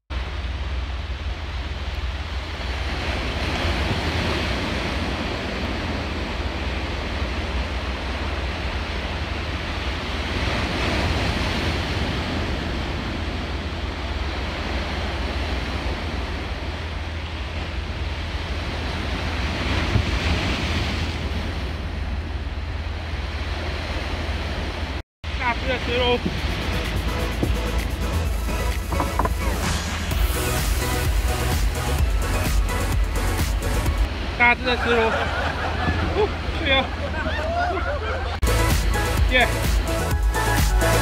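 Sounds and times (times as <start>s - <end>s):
steady low rumble: 0.0s - 41.0s
waves washing against rocks: 0.1s - 41.0s.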